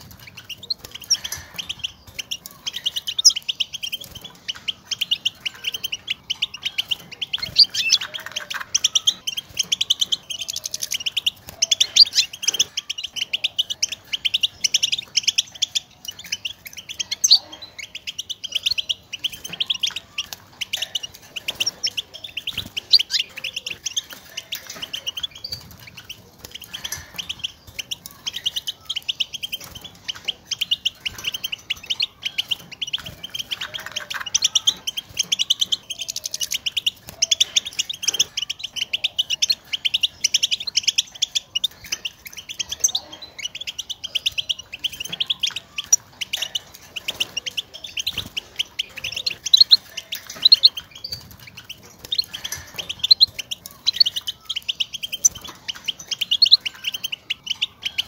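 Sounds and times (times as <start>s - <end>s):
bird twittering chirps: 0.0s - 58.0s.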